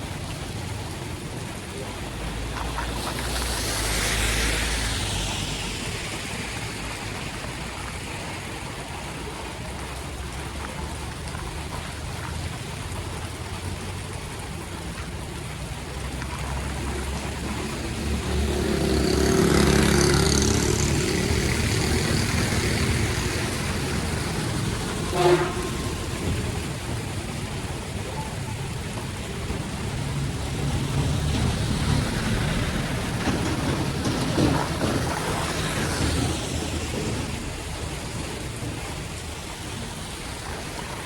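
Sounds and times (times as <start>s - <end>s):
steady rain: 0.0s - 41.0s
vehicle driving through floodwater: 0.0s - 41.0s.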